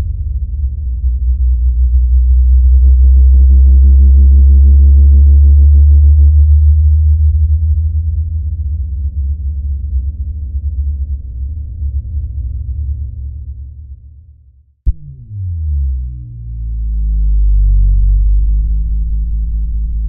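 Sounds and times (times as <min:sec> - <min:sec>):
deep distorted bass drone: 0:00.0 - 0:14.0, 0:14.9 - 0:20.0.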